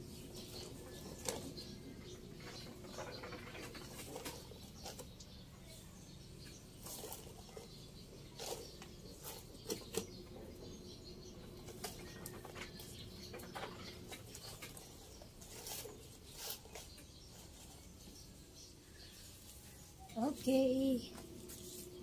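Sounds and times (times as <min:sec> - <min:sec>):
soil and plastic pot rustling: 0:00.0 - 0:22.0.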